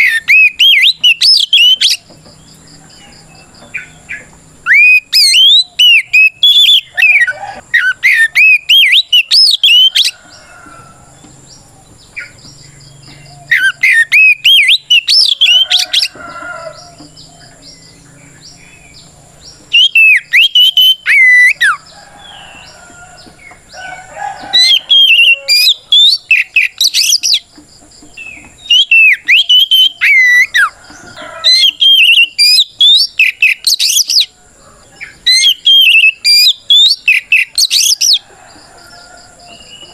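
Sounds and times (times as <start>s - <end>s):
magpie-robin whistled song: 0.0s - 3.1s, 3.7s - 10.8s, 12.1s - 19.0s, 19.6s - 23.7s, 24.4s - 27.5s, 28.1s - 34.3s, 35.0s - 38.2s.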